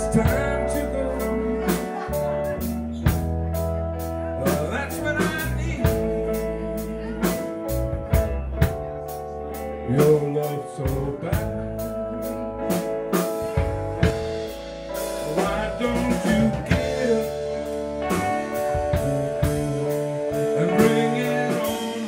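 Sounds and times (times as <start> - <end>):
steady drum beat: 0.0 - 9.2, 10.8 - 22.0
blues band playing: 0.0 - 22.0.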